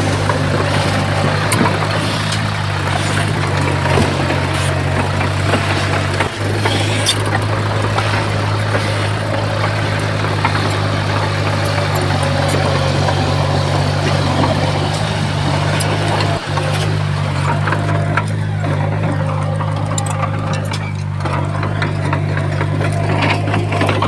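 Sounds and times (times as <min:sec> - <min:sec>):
clicks and rattles: 0:00.0 - 0:24.0
heavy machine engine humming: 0:00.0 - 0:24.0.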